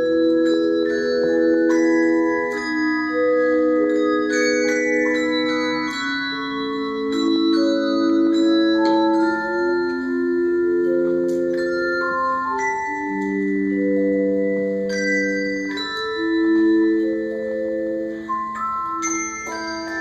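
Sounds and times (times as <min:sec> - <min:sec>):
handbell choir playing: 0:00.0 - 0:20.0.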